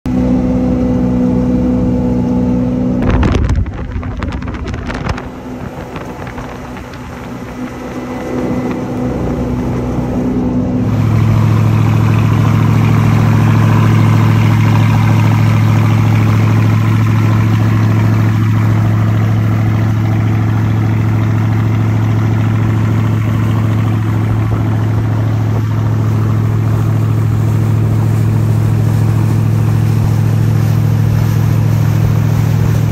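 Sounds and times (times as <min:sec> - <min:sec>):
boat engine droning: 0:00.1 - 0:32.9
water rushing past hull: 0:02.5 - 0:32.9.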